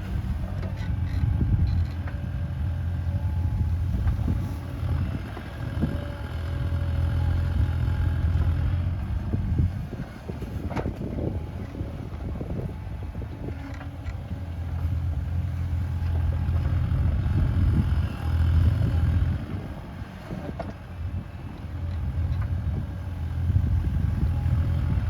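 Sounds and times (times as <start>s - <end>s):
excavator diesel engine droning: 0.0s - 25.0s.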